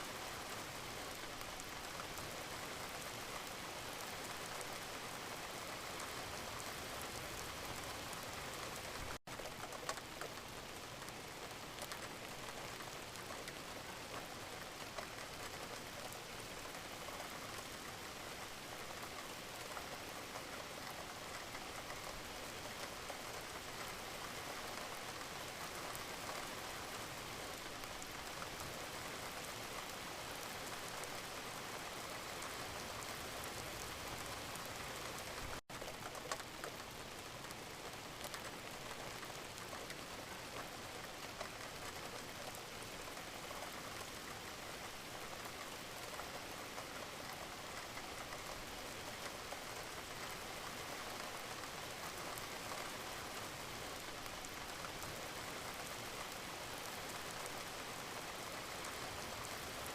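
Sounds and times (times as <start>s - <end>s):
gentle rain hissing: 0.0s - 59.9s
raindrops ticking: 3.3s - 59.8s.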